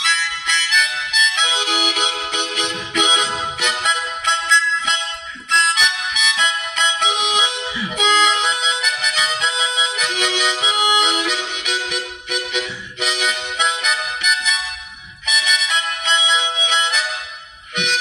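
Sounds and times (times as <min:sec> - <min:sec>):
harmonica playing chords: 0:00.0 - 0:18.0.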